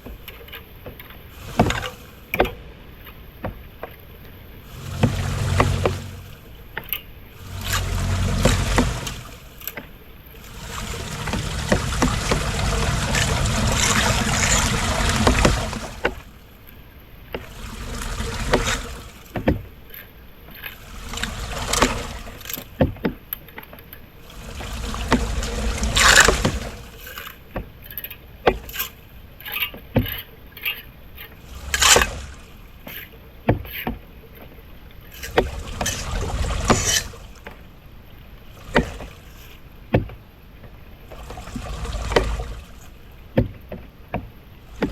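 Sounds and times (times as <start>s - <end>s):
short knocks and scrapes: 0.0s - 2.6s, 4.6s - 16.4s, 17.3s - 34.0s, 35.1s - 37.6s, 41.1s - 44.9s
floodwater splashing and sloshing: 0.0s - 44.9s.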